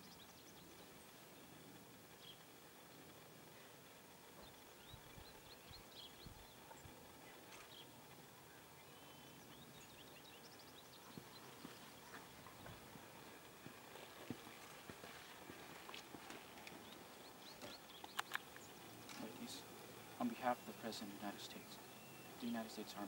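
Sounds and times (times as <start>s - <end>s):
faint bird chirps: 0.0s - 13.4s, 16.8s - 23.0s.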